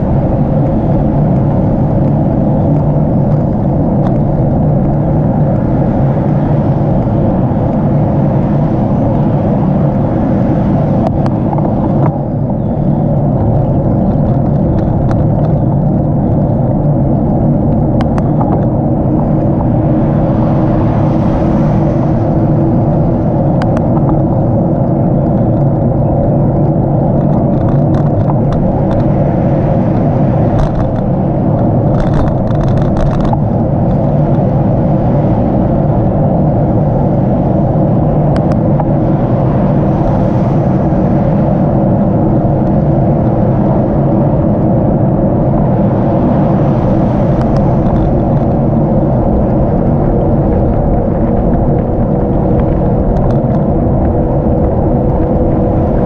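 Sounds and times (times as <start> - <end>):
road rumble: 0.0 - 56.0
wind rush on microphone: 0.0 - 56.0.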